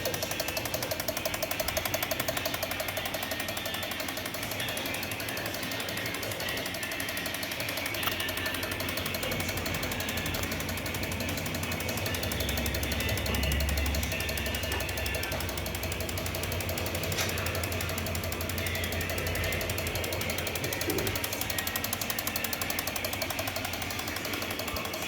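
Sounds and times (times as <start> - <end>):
car engine idling with ticking: 0.0 - 25.0.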